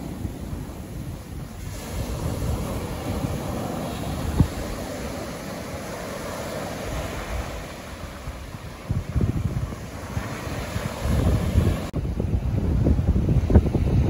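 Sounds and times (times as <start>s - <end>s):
small waves washing on sand: 0.0s - 14.0s
wind buffeting microphone: 0.0s - 14.0s.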